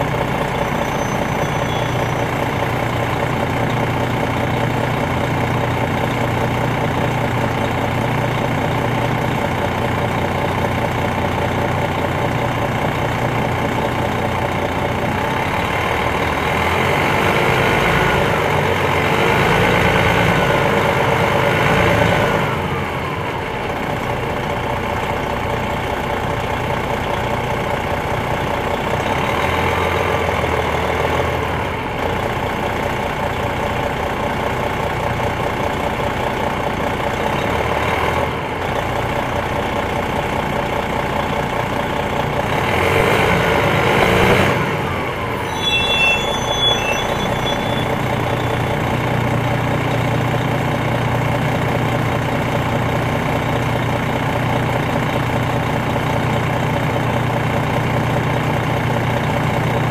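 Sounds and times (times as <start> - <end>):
bus diesel engine pulling: 0.0 - 59.9.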